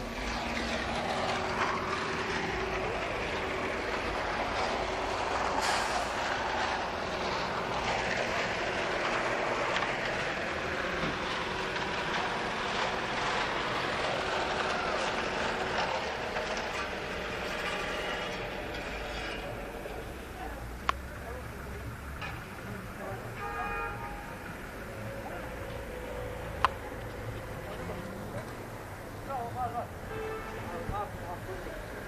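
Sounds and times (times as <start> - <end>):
city street traffic hum: 0.0 - 32.0.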